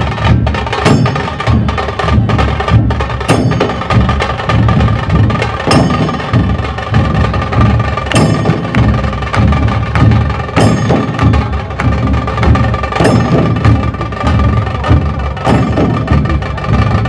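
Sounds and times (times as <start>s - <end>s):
dhol drums beating: 0.0s - 17.0s
sharp tasha drum strokes: 0.0s - 17.0s.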